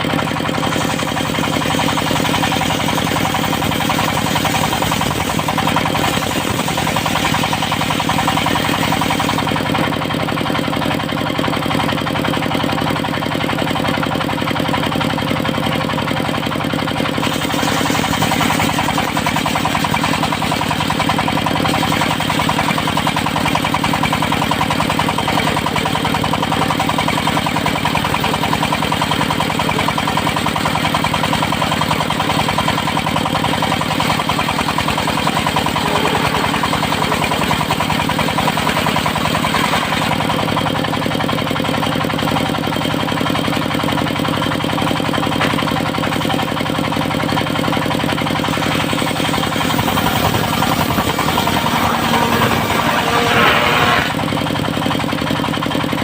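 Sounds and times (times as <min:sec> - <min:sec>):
saw mill engine running: 0:00.0 - 0:56.0.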